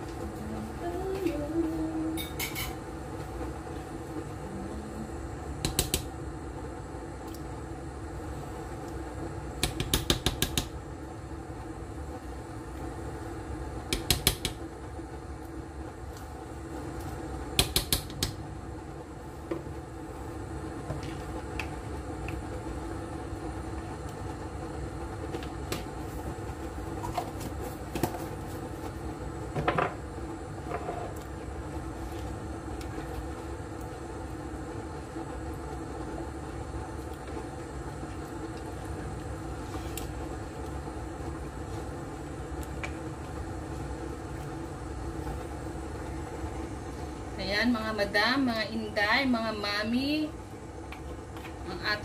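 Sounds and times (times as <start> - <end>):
cooling fan hum: 0.0 - 52.0.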